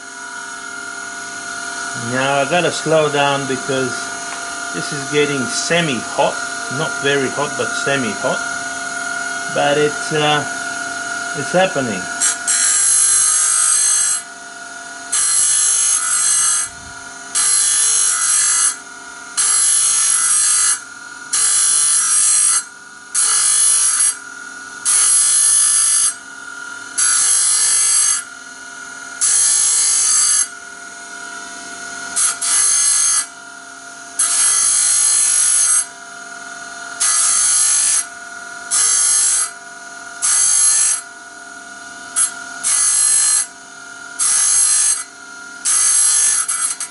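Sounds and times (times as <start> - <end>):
grinder grinding saw blade: 0.0 - 46.9.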